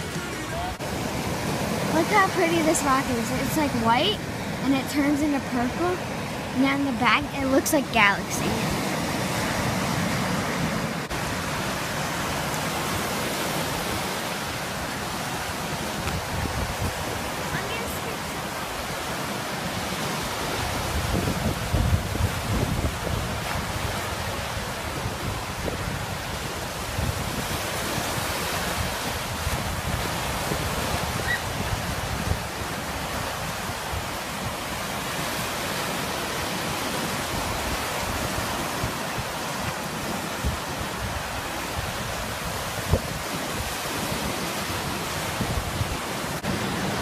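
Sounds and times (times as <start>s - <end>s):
waves breaking on beach: 0.0s - 47.0s
wind buffeting microphone: 0.0s - 47.0s.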